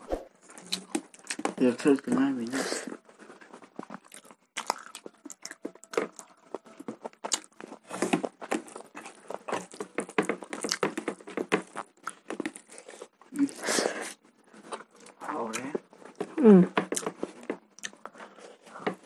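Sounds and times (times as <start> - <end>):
wet chewing and mouth smacks: 0.5 - 1.5, 3.2 - 18.9.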